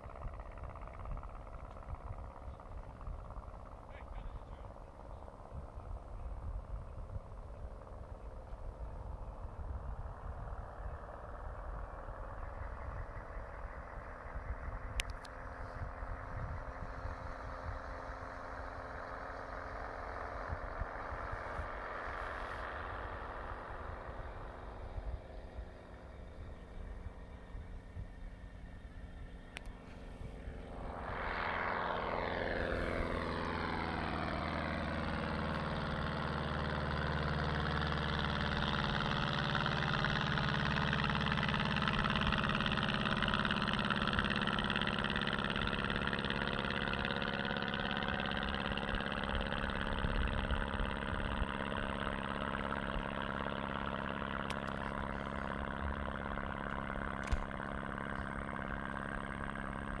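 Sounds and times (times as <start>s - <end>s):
propeller plane flying past: 0.0s - 60.0s.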